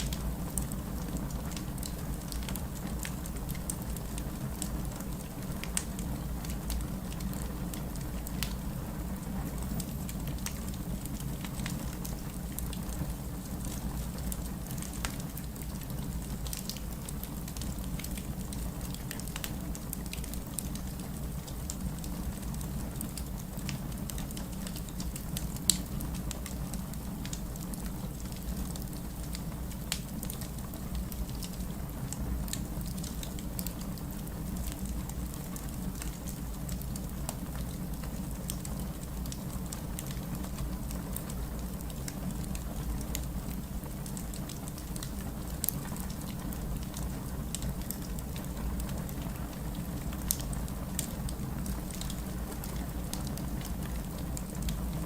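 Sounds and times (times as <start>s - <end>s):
steady rain: 0.0s - 55.0s
wood fire crackling and popping: 0.0s - 55.0s.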